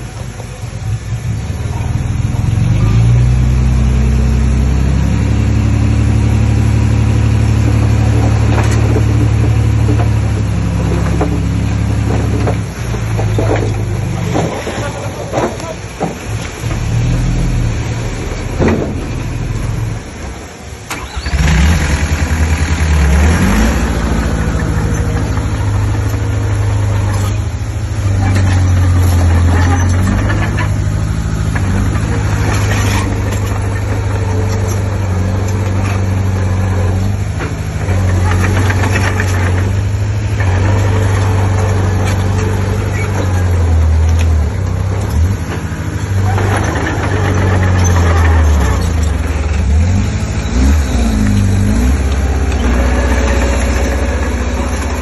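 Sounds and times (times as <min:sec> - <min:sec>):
heavy diesel engine revving: 0:00.0 - 0:55.0.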